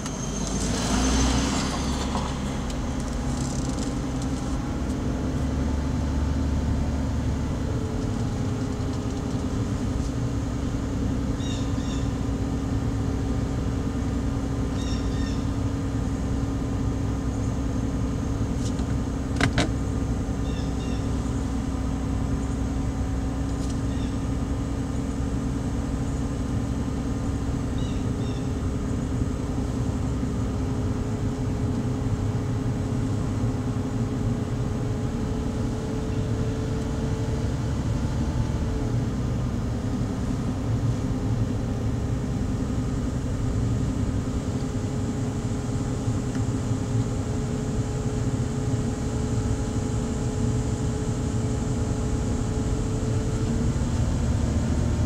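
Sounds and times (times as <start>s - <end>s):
car interior drone: 0.0s - 55.0s.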